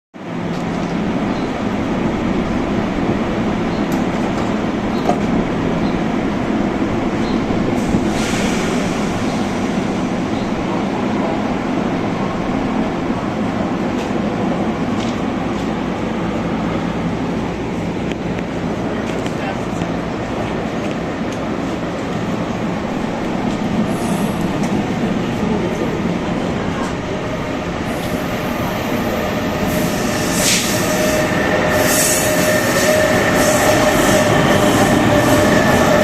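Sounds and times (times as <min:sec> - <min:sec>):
train rumbling on track: 0:00.2 - 0:36.0.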